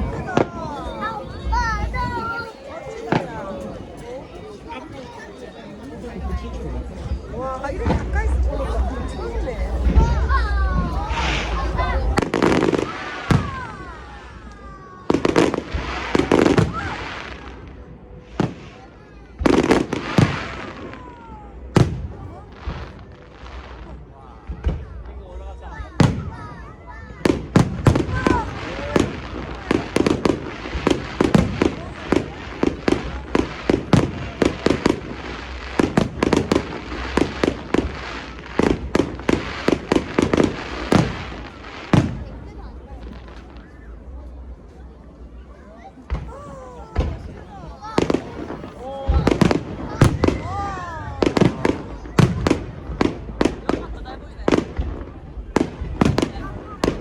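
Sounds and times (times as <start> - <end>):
fireworks bangs: 6.2 - 25.1, 26.0 - 43.8, 46.0 - 57.0.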